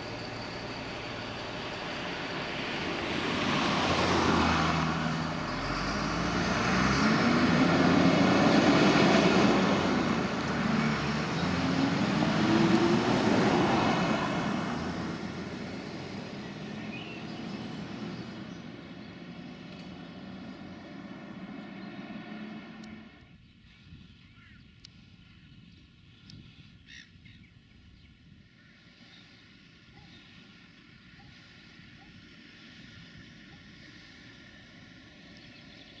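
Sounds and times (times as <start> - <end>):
diesel lorry engine accelerating: 0.0 - 23.5, 28.5 - 36.0.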